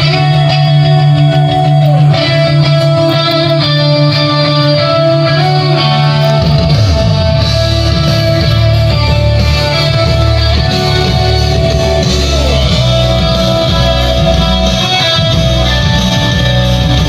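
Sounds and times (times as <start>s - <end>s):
guitar music with strong bass: 0.0s - 17.0s.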